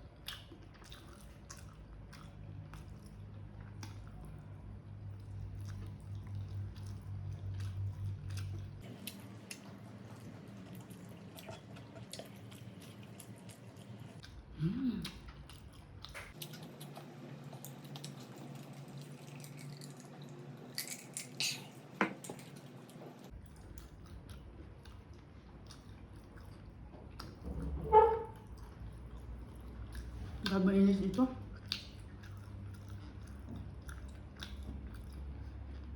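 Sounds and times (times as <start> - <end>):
chewing with mouth clicks: 0.0 - 27.5, 28.4 - 35.9.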